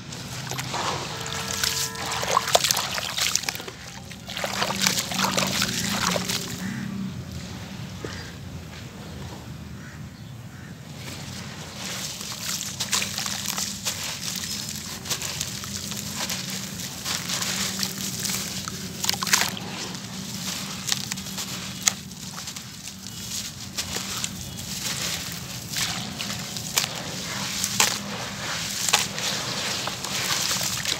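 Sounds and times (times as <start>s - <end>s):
wet gritty crunching: 0.0s - 8.9s, 10.9s - 30.9s
water sloshing: 0.0s - 9.2s, 10.8s - 30.9s.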